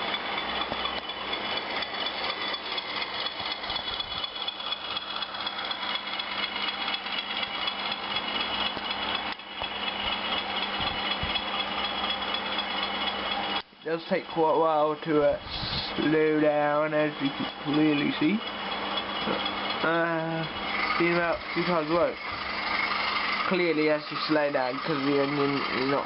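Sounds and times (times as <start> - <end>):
diesel engine sound from small speaker: 0.0 - 26.0.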